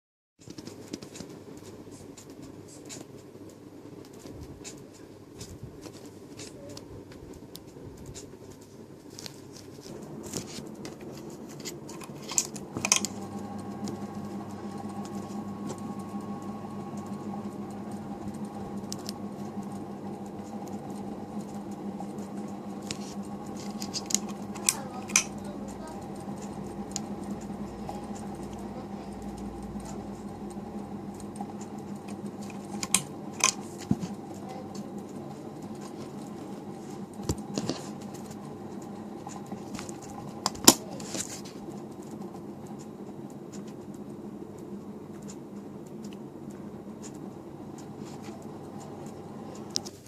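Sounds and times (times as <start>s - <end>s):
ceiling fan motor hum: 0.4s - 50.0s.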